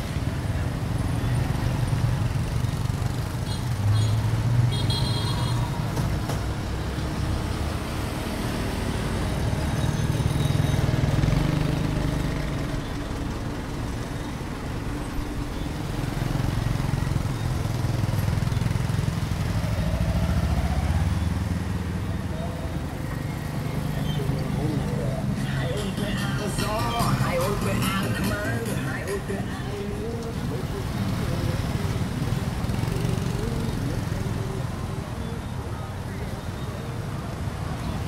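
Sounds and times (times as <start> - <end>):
scooters and motorbikes passing: 0.0 - 38.0.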